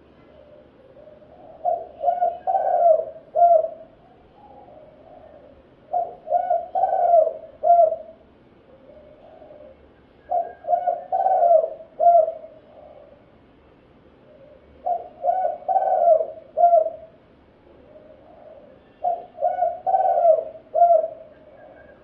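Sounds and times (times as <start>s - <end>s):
dove cooing: 0.2s - 13.3s, 14.2s - 22.0s.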